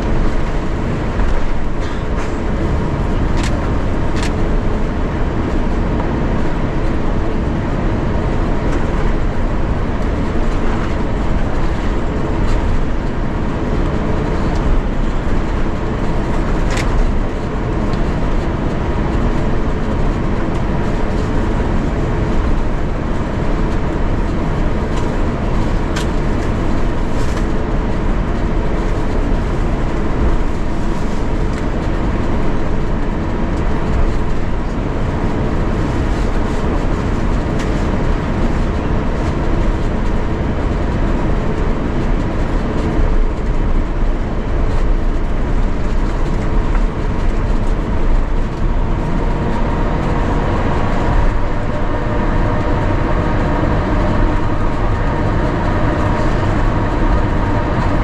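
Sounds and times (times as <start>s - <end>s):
airplane cabin rumble: 0.0s - 58.0s
constant hums: 0.0s - 58.0s.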